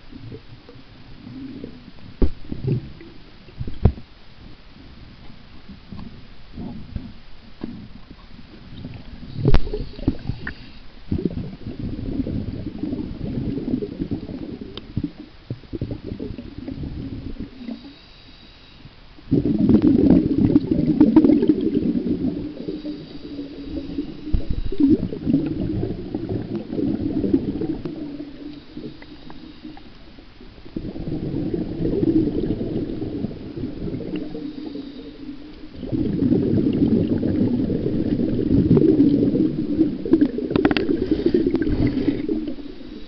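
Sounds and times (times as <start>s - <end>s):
muffled underwater churning: 0.0s - 43.0s.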